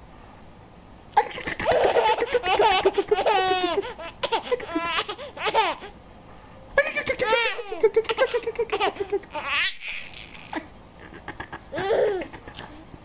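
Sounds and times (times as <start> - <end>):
infant laughing: 1.2 - 5.9, 6.8 - 12.9.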